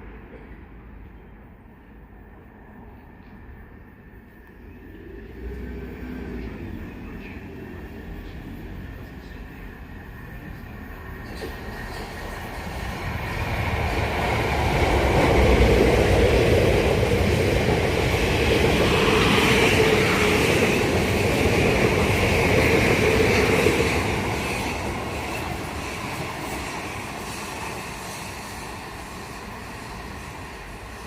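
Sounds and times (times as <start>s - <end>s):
electric train passing: 0.0s - 31.0s.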